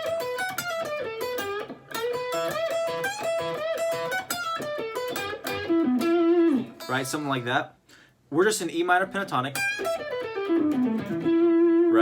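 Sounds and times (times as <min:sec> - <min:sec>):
electric guitar blues lick: 0:00.0 - 0:07.5, 0:09.5 - 0:12.0.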